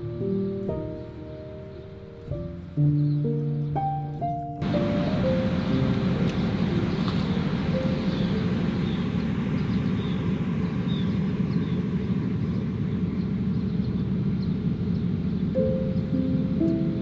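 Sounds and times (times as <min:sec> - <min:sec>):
generators humming: 0:00.0 - 0:17.0.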